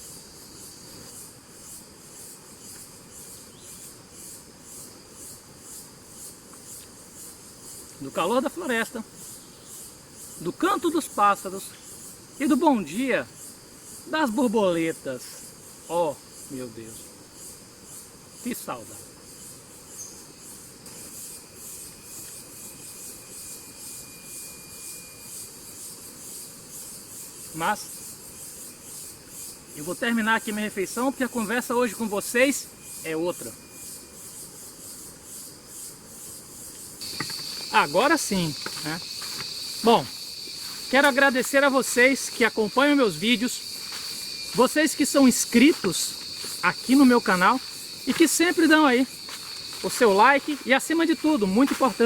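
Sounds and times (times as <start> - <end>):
insects pulsing chorus: 0.0 - 52.0.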